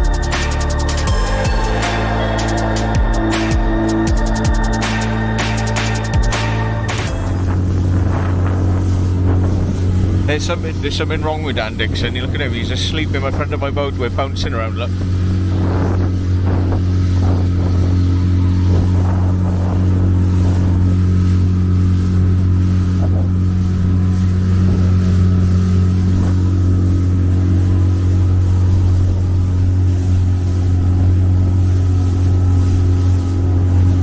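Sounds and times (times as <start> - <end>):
motorboat engine droning: 0.0 - 34.0.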